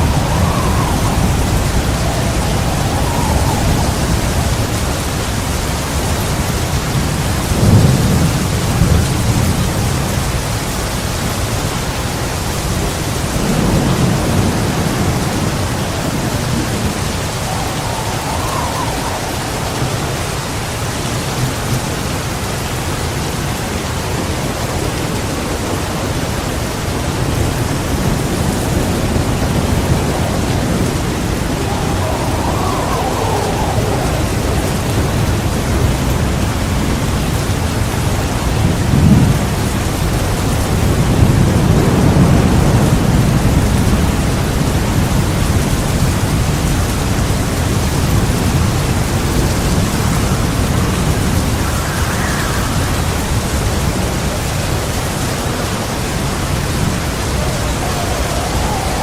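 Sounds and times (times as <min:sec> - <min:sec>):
heavy rain: 0:00.0 - 0:59.0
thunderclap and rumble: 0:00.0 - 0:59.0.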